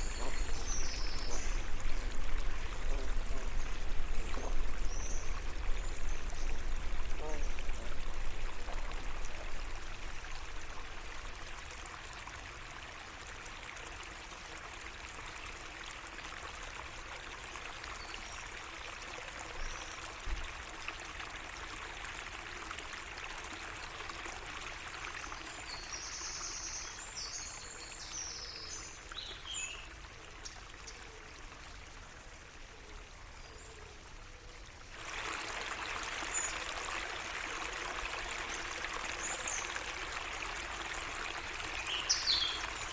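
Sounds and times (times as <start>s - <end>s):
stream trickling: 0.0s - 42.9s.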